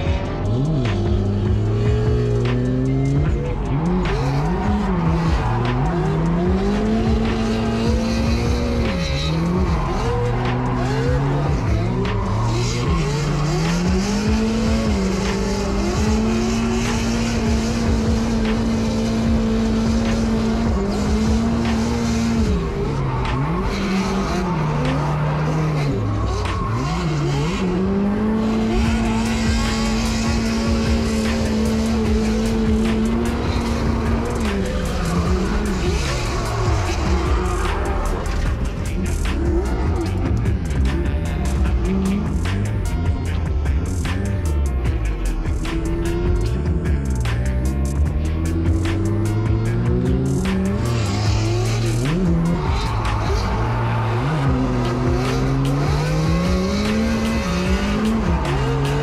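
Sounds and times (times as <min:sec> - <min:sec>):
car engine revving hard: 0:00.0 - 0:59.0.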